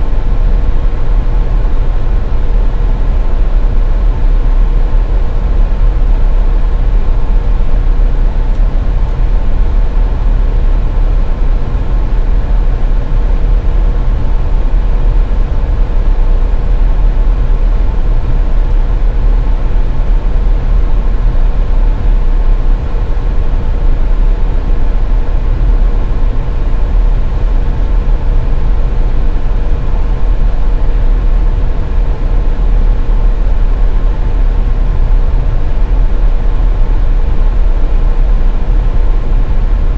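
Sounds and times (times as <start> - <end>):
faint constant hum: 0.0 - 39.9.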